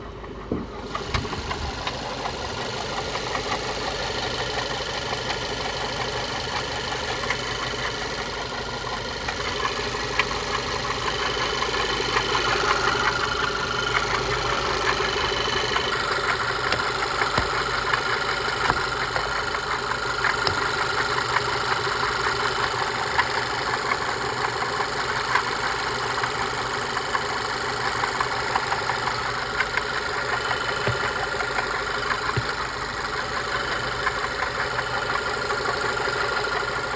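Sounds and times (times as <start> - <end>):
engine knock: 0.0 - 36.9
petrol engine idling: 0.0 - 36.9.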